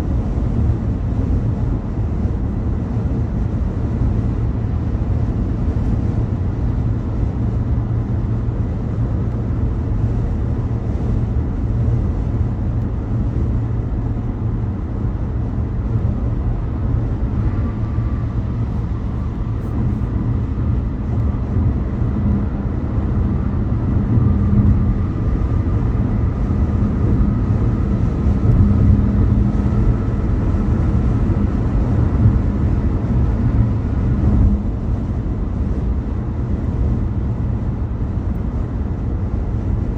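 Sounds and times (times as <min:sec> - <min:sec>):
faint steady whine: 0:00.0 - 0:39.9
road and tyre noise: 0:00.0 - 0:39.9.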